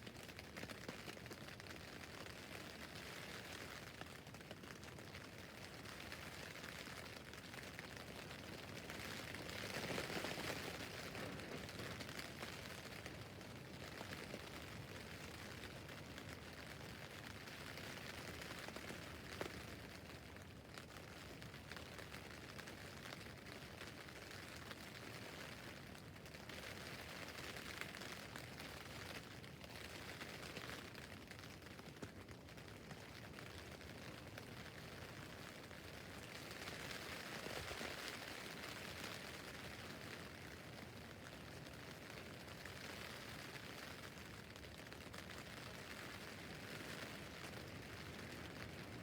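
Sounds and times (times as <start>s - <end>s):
rain on tent fabric: 0.0s - 49.0s.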